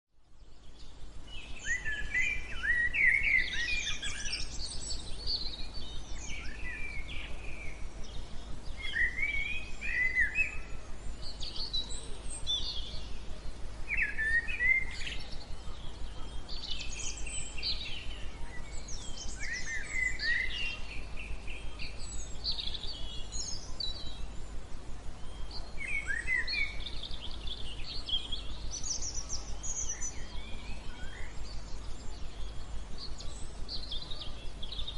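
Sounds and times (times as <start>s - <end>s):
birds chirping and singing: 0.2s - 34.9s
steady white noise: 0.2s - 34.9s.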